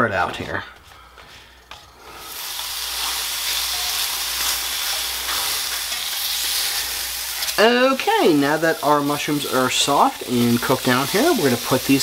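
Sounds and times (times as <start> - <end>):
mushrooms sizzling in a skillet: 2.1 - 12.0.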